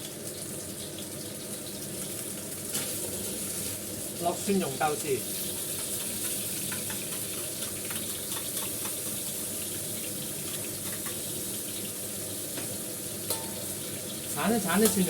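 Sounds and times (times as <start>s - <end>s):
meat sizzling in oil: 0.0s - 15.0s.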